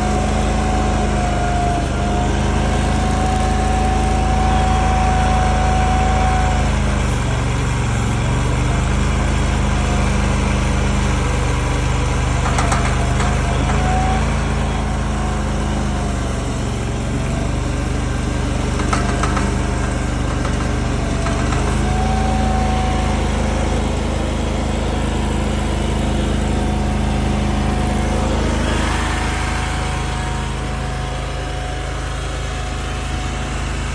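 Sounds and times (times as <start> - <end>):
small gasoline engine running: 0.0 - 33.9.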